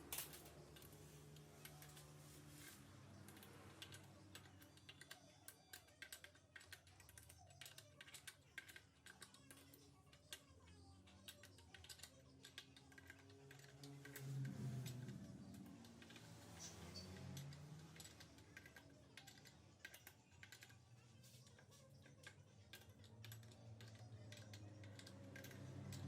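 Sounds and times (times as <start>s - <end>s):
metal parts clicking and tapping: 0.0s - 2.1s, 3.3s - 26.0s.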